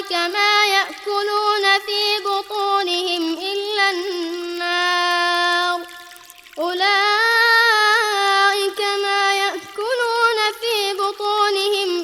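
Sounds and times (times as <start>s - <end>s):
person reciting in melodic style: 0.0s - 12.0s.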